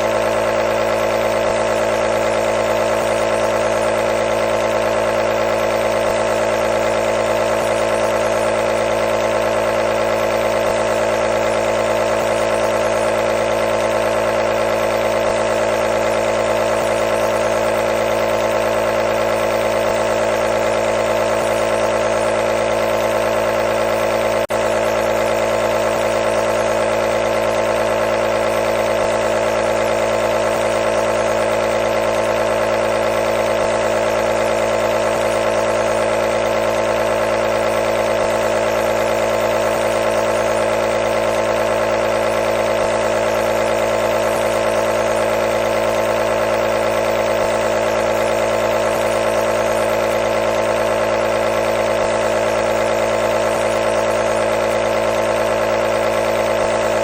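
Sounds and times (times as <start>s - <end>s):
compressor nebulizer humming: 0.0s - 57.0s.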